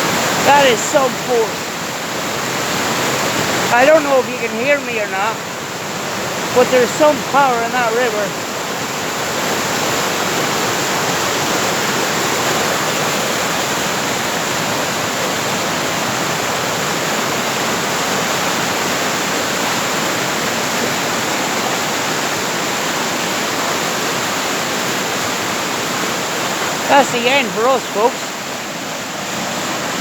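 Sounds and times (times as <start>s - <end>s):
river rushing: 0.0s - 30.0s.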